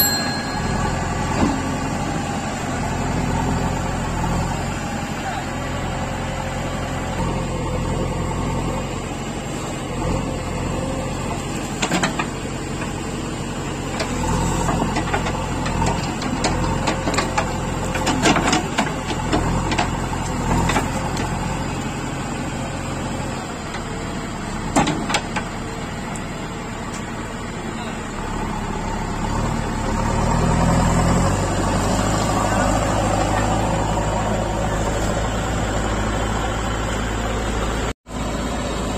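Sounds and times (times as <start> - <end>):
diesel machinery engines: 0.0 - 38.9.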